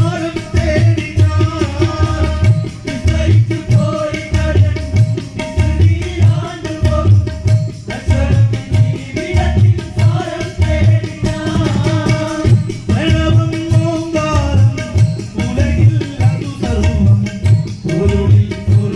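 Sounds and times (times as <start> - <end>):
clay pot drum beat: 0.0 - 18.9
hand drums: 0.0 - 18.9
man singing: 0.0 - 18.9.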